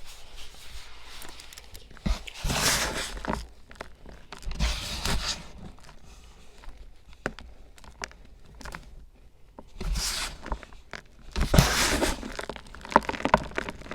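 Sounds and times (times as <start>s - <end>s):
close-up crunching and crackling: 0.0s - 13.9s.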